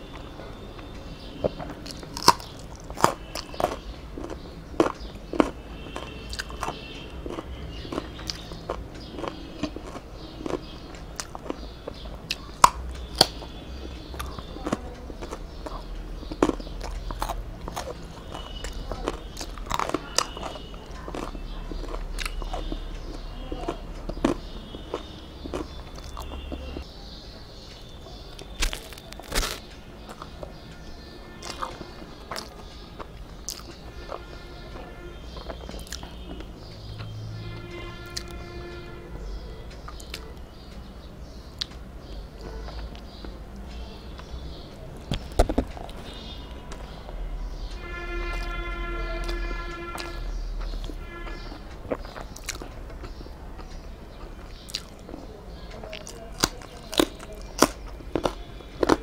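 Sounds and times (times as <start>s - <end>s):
person chewing with wet mouth clicks: 0.1s - 26.9s, 27.6s - 34.4s, 35.3s - 37.2s, 38.0s - 38.4s, 39.7s - 43.3s, 45.0s - 47.0s, 49.2s - 59.0s.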